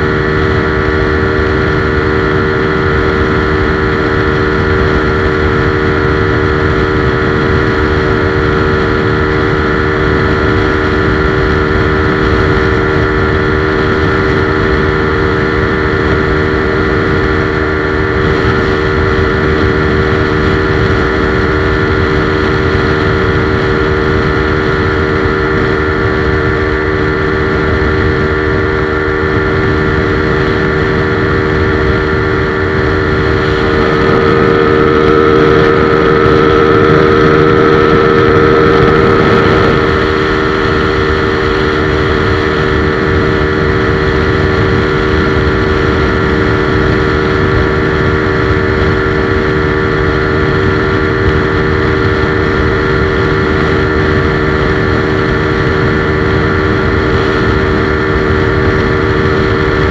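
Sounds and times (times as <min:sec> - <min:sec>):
motorcycle engine at high revs: 0:00.0 - 0:59.9
road and wind noise: 0:00.0 - 0:59.9.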